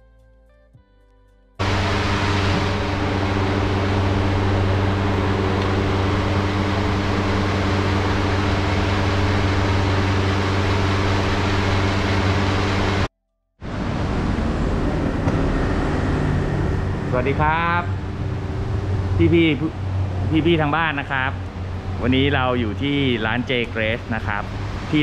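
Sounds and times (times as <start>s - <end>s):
machine humming and hissing: 1.6s - 25.0s.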